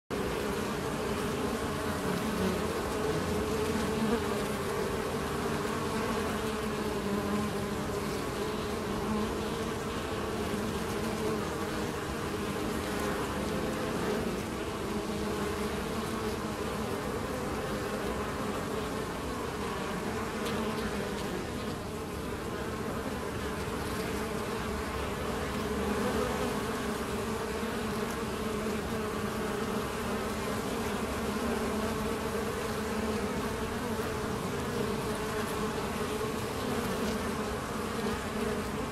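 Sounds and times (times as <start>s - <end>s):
honeybees buzzing: 0.1s - 38.9s.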